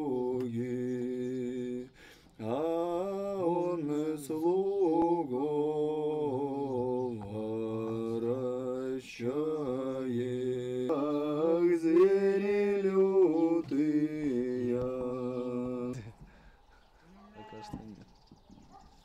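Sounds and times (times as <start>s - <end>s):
chant-like a cappella singing: 0.0s - 16.3s.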